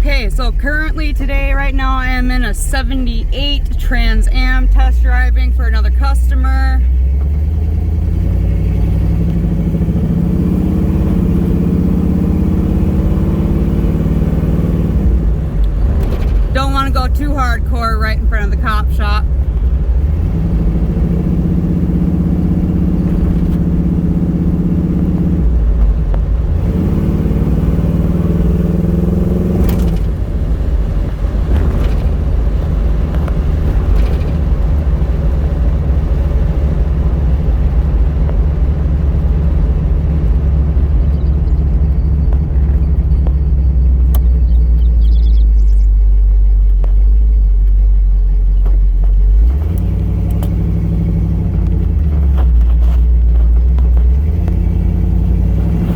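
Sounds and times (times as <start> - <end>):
car engine idling and cruising: 0.0 - 55.9
road noise: 0.0 - 55.9.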